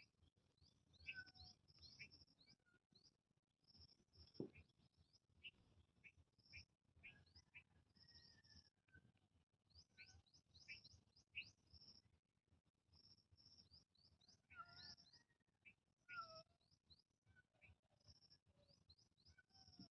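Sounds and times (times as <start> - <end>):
small birds chirping faintly: 0.0 - 19.9.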